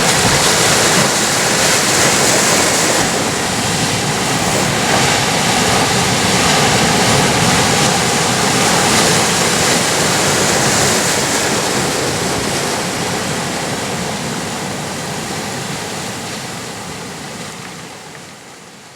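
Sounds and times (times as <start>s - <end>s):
surf breaking on rocks: 0.0s - 17.8s.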